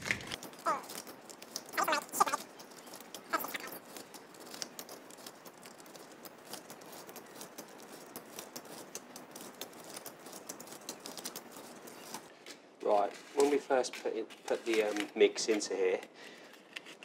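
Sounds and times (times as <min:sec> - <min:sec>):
paper cupcake cases rustling: 0:00.0 - 0:17.0.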